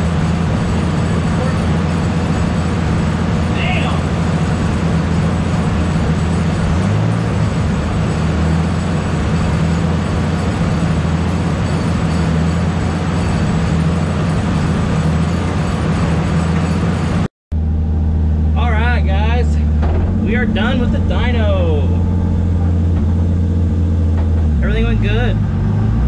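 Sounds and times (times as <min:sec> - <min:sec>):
car engine idling: 0:00.0 - 0:26.0
cooling fans: 0:00.0 - 0:26.0.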